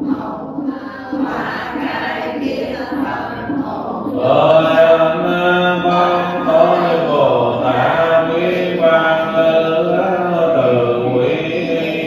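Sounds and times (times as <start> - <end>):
liturgical chanting: 0.0 - 12.0
steady low knock: 0.0 - 12.0.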